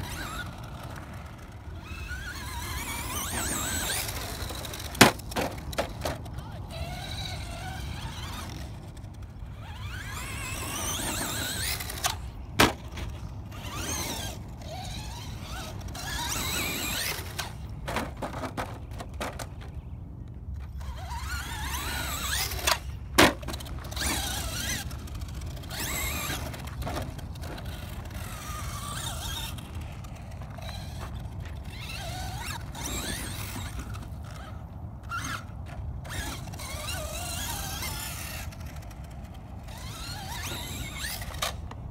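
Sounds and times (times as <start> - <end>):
toy truck motor whining: 0.0 - 19.5, 20.6 - 41.7.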